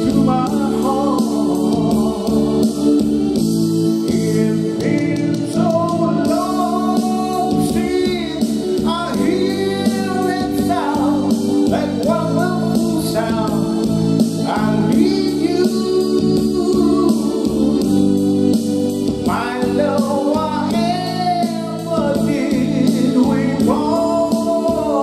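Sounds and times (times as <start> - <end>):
man singing into a microphone: 0.0 - 25.0
recorded backing music: 0.0 - 25.0.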